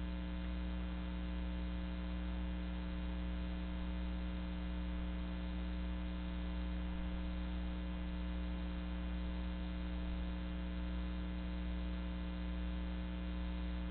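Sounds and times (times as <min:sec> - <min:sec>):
electrical mains hum: 0:00.0 - 0:13.9.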